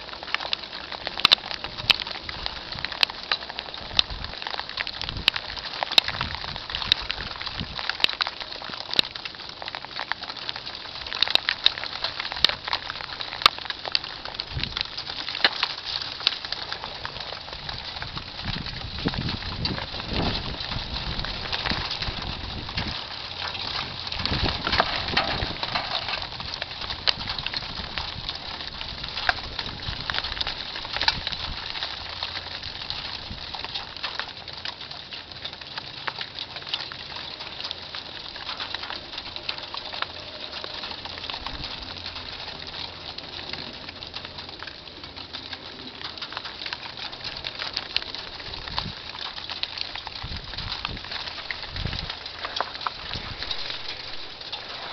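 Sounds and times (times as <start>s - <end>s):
freezing rain pattering: 0.0s - 54.9s.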